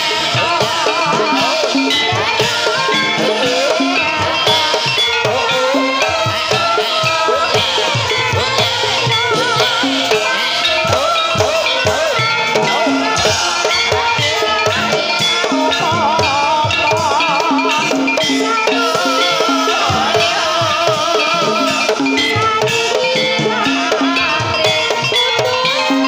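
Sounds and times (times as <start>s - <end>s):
drums keeping steady beat: 0.0s - 26.0s
gamelan: 0.0s - 26.0s
wavering vibrato melody: 0.0s - 26.0s.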